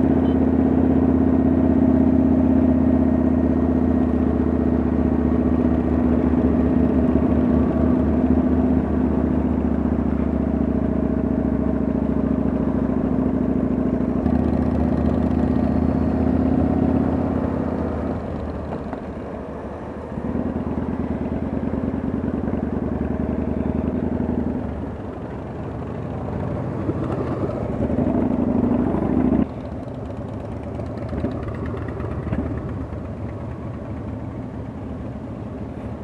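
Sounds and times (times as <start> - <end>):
motorcycle engine running at low speed: 0.0 - 36.0
other motorcycles: 0.0 - 36.0.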